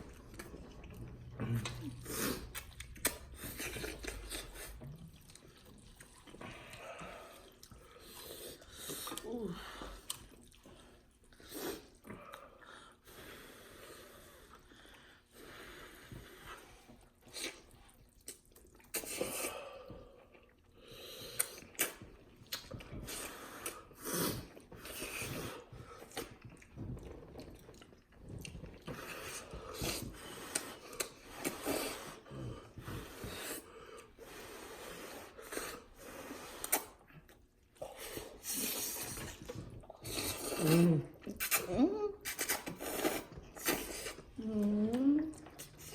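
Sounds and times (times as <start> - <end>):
slurping and chewing noodles: 0.0 - 45.9.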